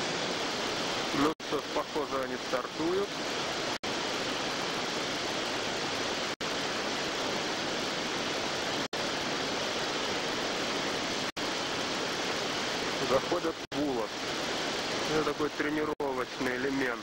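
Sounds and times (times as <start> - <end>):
whitewater roaring: 0.0 - 17.0.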